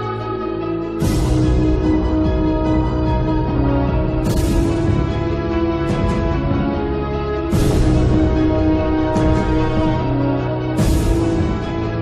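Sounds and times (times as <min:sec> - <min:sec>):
music with sustained tones: 0:00.0 - 0:12.0.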